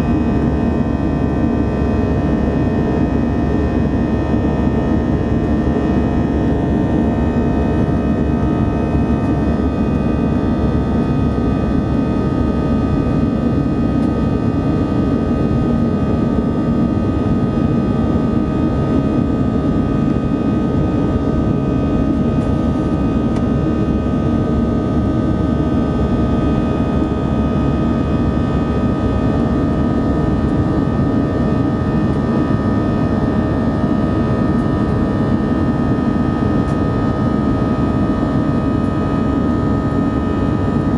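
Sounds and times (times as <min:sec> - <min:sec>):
airplane cabin engine noise: 0:00.0 - 0:40.9.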